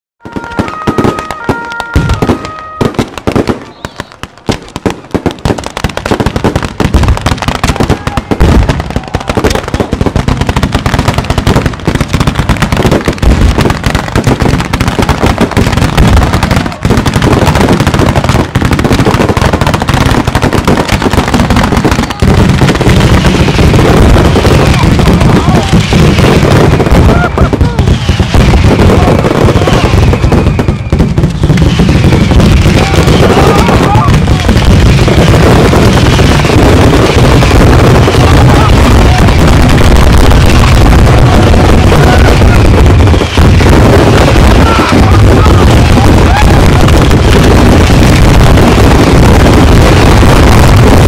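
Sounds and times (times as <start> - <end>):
firecrackers exploding: 0.2 - 51.0.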